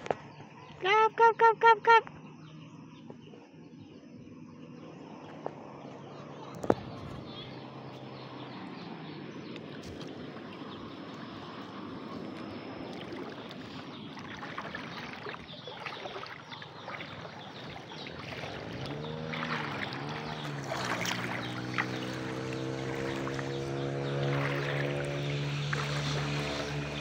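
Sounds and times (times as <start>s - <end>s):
floodwater sloshing and splashing: 5.0s - 27.0s.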